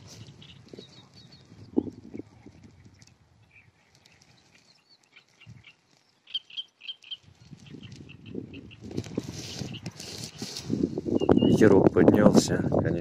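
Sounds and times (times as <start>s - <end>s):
wind gusting across microphone: 0.0s - 6.0s, 7.0s - 13.0s
small birds chirping: 0.0s - 11.9s.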